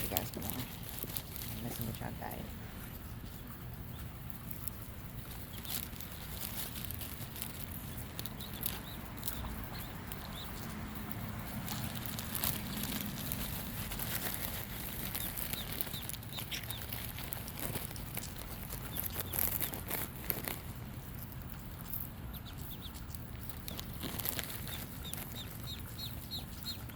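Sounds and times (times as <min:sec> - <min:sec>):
ducklings peeping: 0:00.0 - 0:26.9
ducks feeding clicks: 0:00.0 - 0:26.9.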